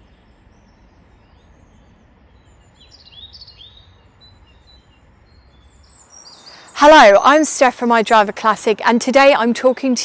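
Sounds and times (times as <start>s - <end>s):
songbird chirps: 0.0s - 10.0s.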